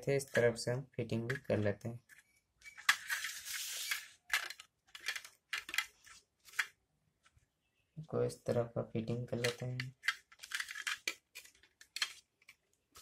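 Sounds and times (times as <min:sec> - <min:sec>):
plastic parts being handled: 0:00.2 - 0:07.4, 0:09.2 - 0:13.0.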